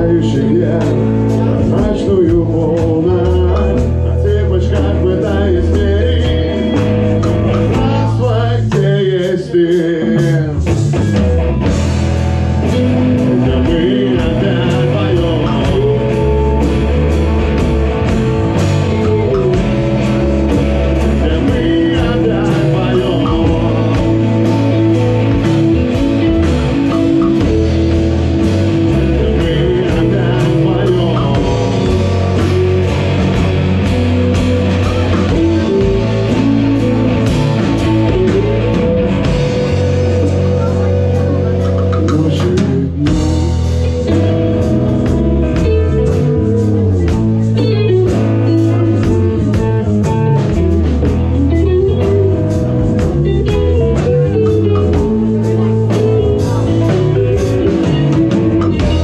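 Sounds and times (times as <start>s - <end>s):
person singing: 0.0s - 11.3s, 12.6s - 59.0s
rock band playing: 0.0s - 59.0s.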